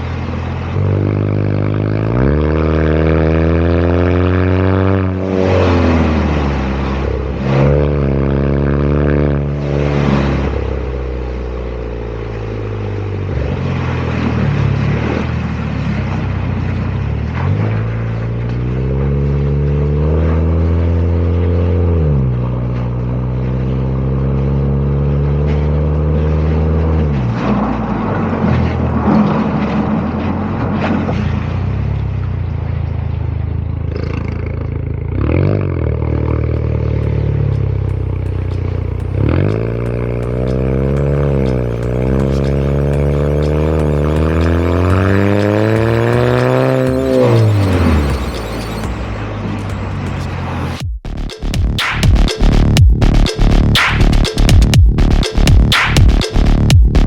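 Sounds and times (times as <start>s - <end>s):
car exhaust accelerating: 0.0s - 57.0s.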